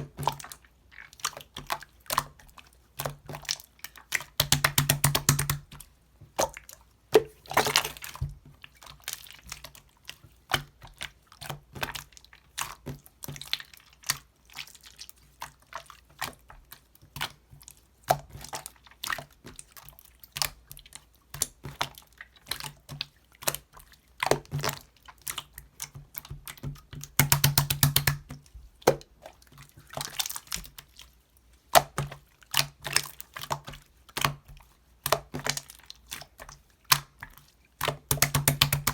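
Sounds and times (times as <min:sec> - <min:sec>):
slime squishing with wet clicks: 0:00.0 - 0:38.9.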